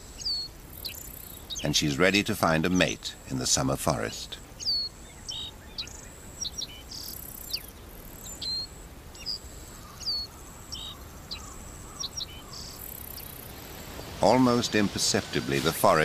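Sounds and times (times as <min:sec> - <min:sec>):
birds chirping and whistling: 0:00.0 - 0:01.8, 0:04.6 - 0:15.9.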